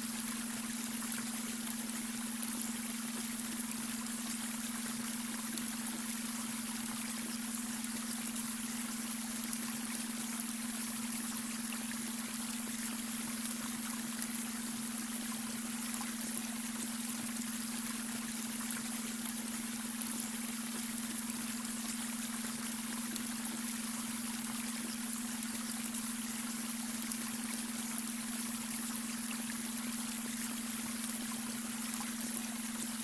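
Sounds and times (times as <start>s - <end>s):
brook water trickling: 0.0s - 33.0s
steady low hum tone: 0.0s - 33.0s.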